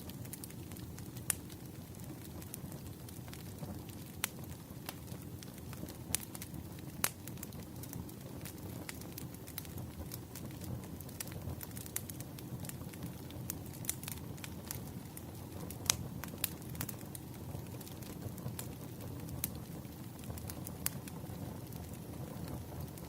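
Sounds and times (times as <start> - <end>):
burning logs crackling and popping: 0.0 - 23.0
campfire flames rushing: 0.0 - 23.0.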